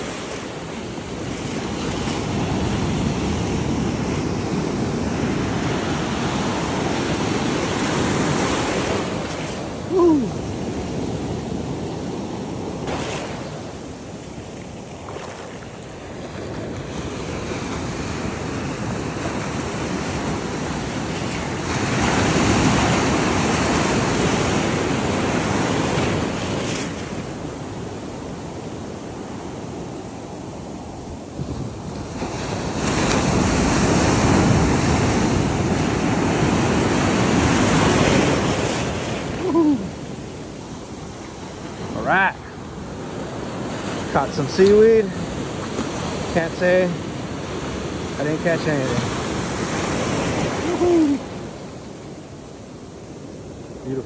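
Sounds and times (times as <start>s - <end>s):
ocean surf washing up beach: 0.0s - 54.0s.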